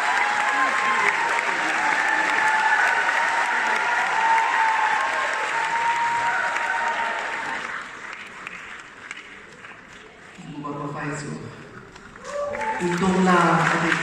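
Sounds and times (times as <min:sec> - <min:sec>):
large audience applauding: 0:00.0 - 0:10.4, 0:11.9 - 0:14.0.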